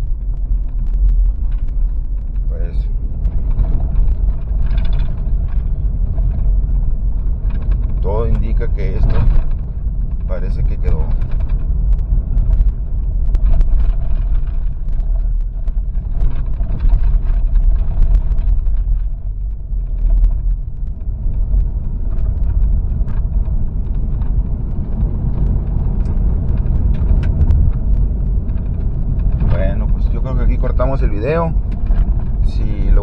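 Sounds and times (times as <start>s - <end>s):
engine and tyres rumbling: 0.0s - 33.0s
knocks and rattles: 0.0s - 33.0s.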